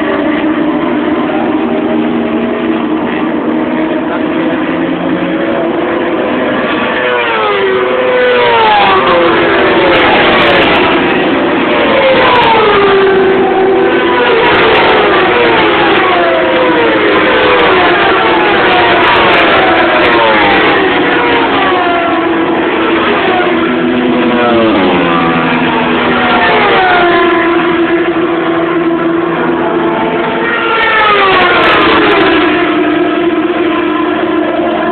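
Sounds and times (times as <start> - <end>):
racing motorcycles passing: 0.0 - 34.9.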